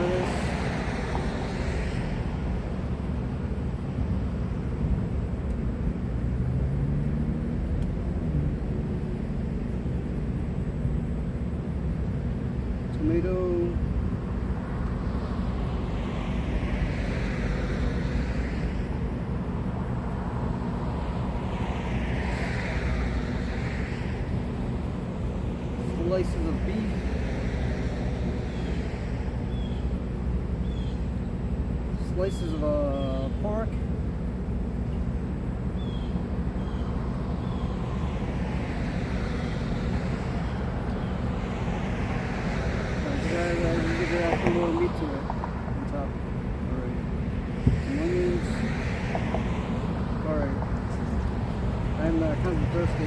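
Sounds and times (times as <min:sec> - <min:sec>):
traffic rumble: 0:00.0 - 0:53.0
vehicles passing: 0:00.0 - 0:53.0.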